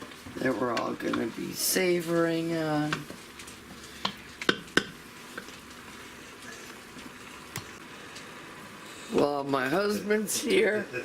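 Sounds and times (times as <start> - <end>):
meat and beans sizzling softly: 0.0 - 11.0.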